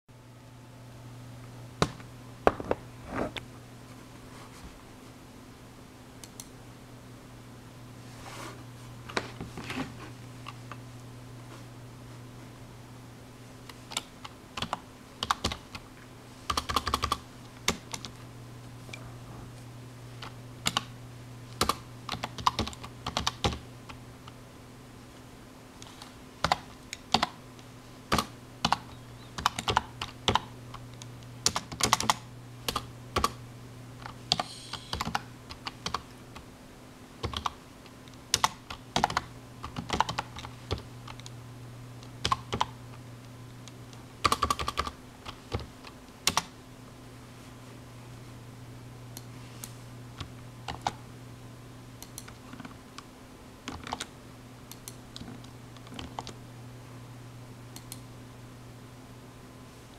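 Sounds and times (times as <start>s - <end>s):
steady low hum: 0.1s - 59.9s.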